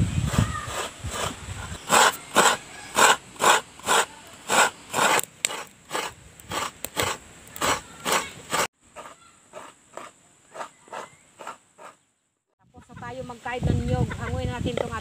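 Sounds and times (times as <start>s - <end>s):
coconut grating scraping strokes: 0.0s - 12.0s.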